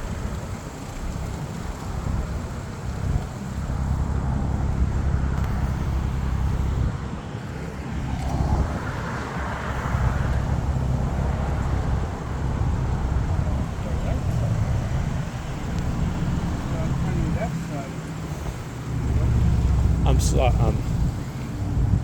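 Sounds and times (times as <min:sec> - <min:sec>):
road traffic: 0:00.0 - 0:22.0
vehicle passing: 0:00.0 - 0:22.0
wind rumble on microphone: 0:00.0 - 0:22.0.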